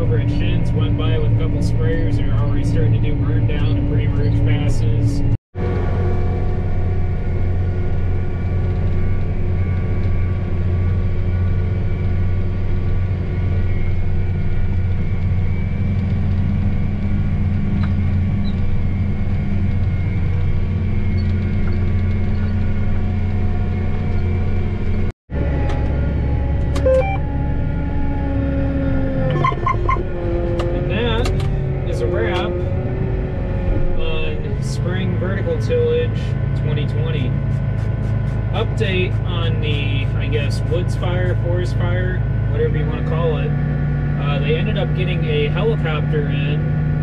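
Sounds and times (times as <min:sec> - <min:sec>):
tractor diesel engine droning: 0:00.0 - 0:47.0.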